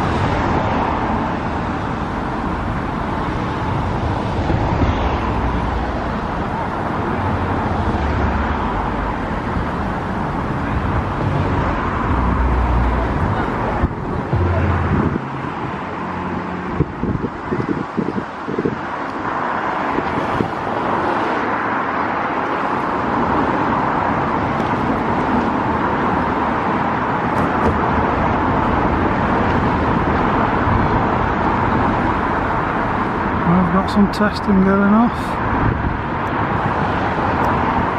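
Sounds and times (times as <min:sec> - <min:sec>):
road traffic noise: 0:00.0 - 0:37.9
vehicle engine hum: 0:00.0 - 0:37.9.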